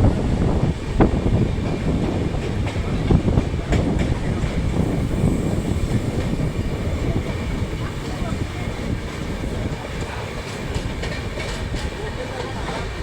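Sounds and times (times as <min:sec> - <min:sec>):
train wheels rumbling on rails: 0:00.0 - 0:13.0
wheels clacking over rail joints: 0:01.6 - 0:13.0.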